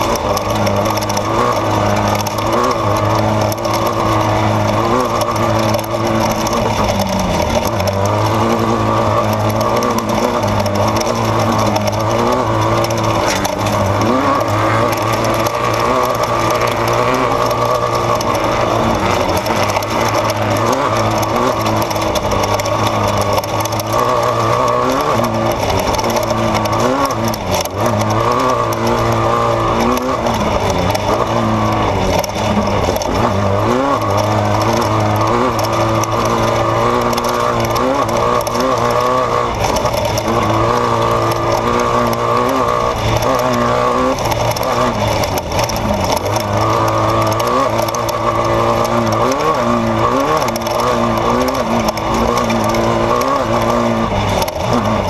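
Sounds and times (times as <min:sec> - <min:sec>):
race vehicle engine running hard: 0:00.0 - 0:55.0.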